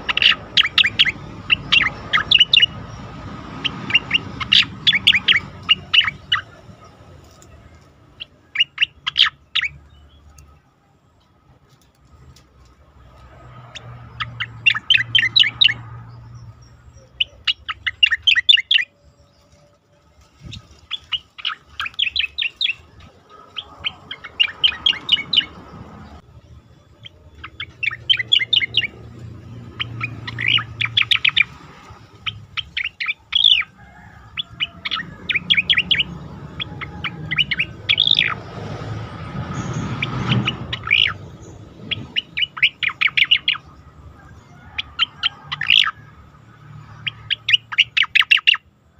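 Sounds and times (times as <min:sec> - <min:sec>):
bird singing high chattering notes: 0:00.0 - 0:10.6, 0:13.8 - 0:33.8, 0:34.4 - 0:38.6, 0:39.2 - 0:43.9, 0:46.9 - 0:48.7.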